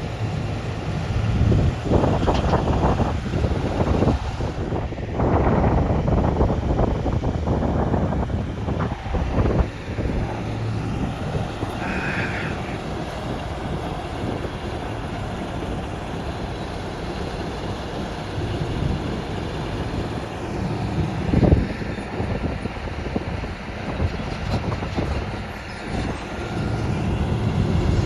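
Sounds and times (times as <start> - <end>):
diesel machinery running: 0.0 - 28.0
wind buffeting microphone: 0.0 - 28.0.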